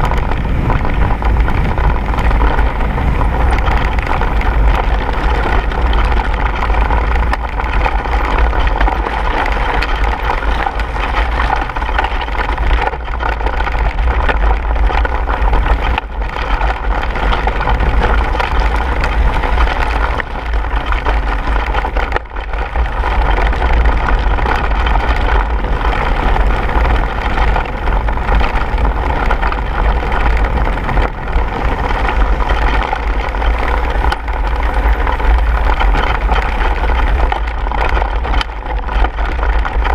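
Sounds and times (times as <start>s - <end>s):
bike tyres rattling over stones: 0.0s - 39.9s
wind on camera microphone: 0.0s - 39.9s.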